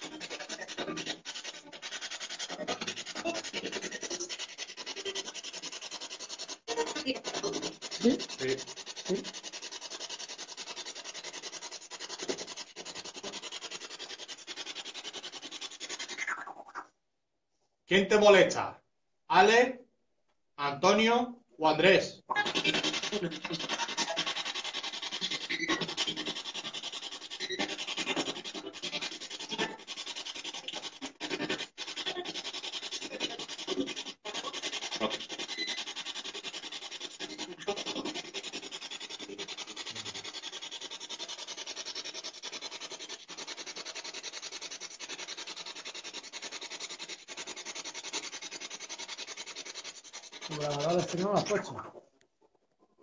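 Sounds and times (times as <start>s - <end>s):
faint rubbing and scratching: 0.0s - 16.8s, 22.4s - 53.0s.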